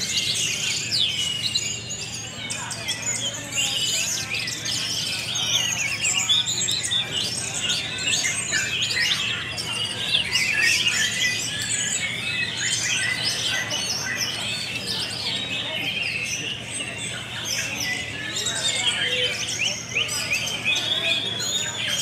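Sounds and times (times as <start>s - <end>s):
chorus of songbirds: 0.0s - 22.0s.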